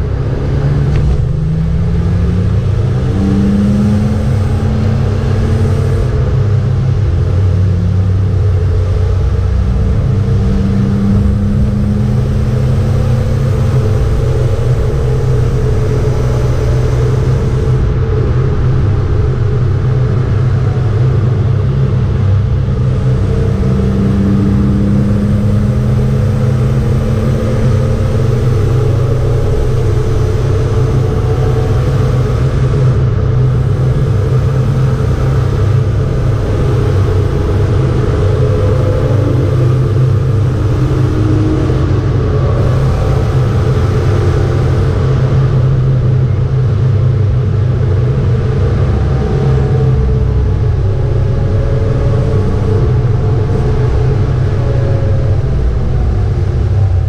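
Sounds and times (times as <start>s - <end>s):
race car engine drone: 0.0s - 57.0s
road noise: 0.0s - 57.0s.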